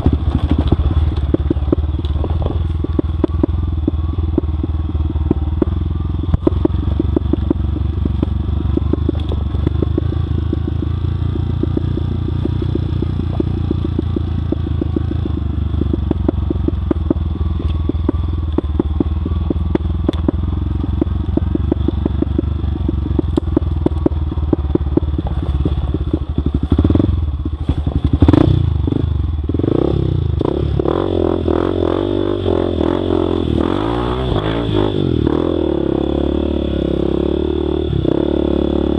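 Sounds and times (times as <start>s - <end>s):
engine clatter: 0.0s - 38.9s
motorcycle engine running: 0.0s - 38.9s.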